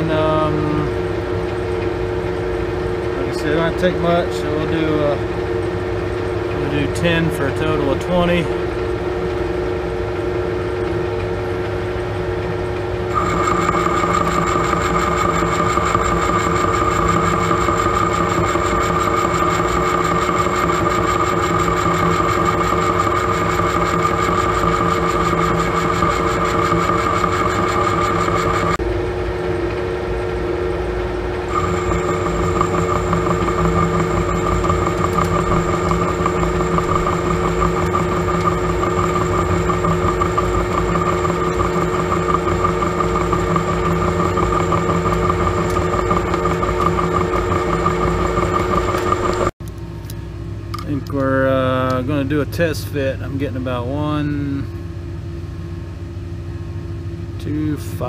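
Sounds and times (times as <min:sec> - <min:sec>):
high-pitched cutting whine: 0:00.0 - 0:10.6, 0:13.0 - 0:56.4
metal lathe humming: 0:00.0 - 0:28.8, 0:31.2 - 0:49.5.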